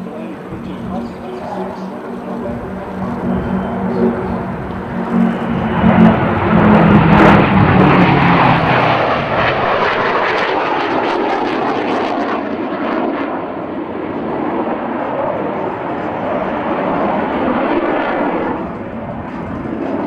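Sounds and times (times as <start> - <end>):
jet fighters roaring past: 0.0 - 20.0.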